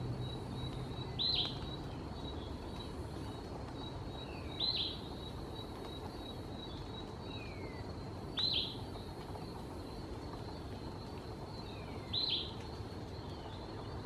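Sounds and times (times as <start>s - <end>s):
low background hiss: 0.0s - 14.0s.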